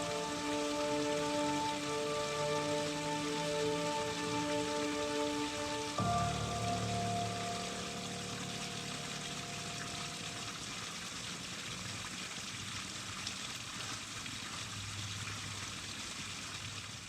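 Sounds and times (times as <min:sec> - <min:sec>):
water running in a garden feature: 0:00.0 - 0:17.0.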